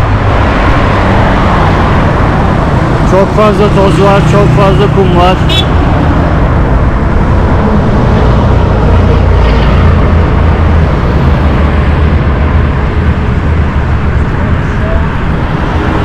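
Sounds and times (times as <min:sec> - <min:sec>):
heavy highway traffic rumble: 0:00.0 - 0:16.0.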